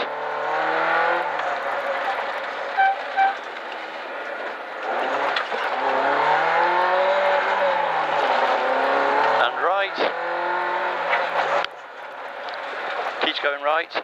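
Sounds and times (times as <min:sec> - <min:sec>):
rally car engine at full throttle: 0:00.0 - 0:14.0
tyre and road roar: 0:00.0 - 0:14.0.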